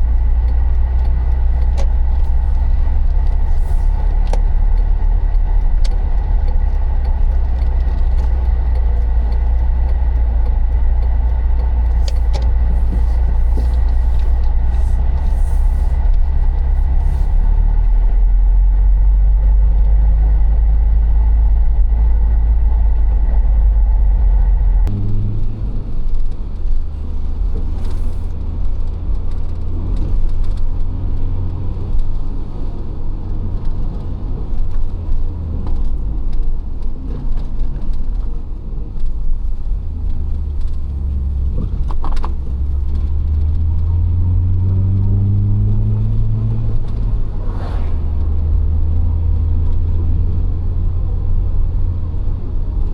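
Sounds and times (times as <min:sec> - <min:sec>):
car engine driving: 0:00.0 - 0:52.9.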